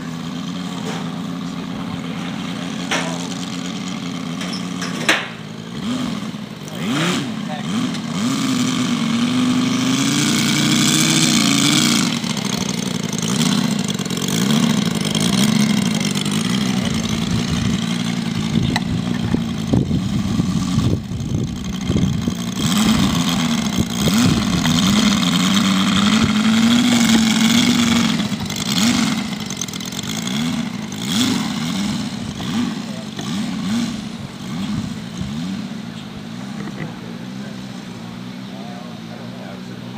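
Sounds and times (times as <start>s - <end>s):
model aircraft radial engine running: 0.0s - 39.9s.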